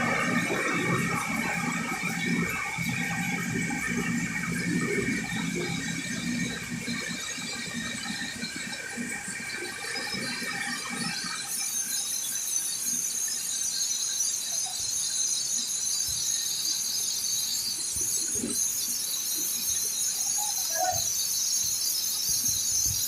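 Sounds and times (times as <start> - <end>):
machinery hissing and whining: 0.0 - 23.0.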